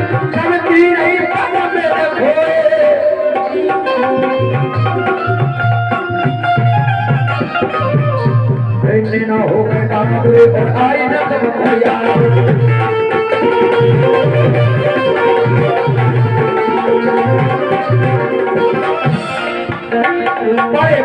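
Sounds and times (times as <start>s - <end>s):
hand drum rhythm: 0.0s - 21.0s
harmonium melody: 0.0s - 21.0s.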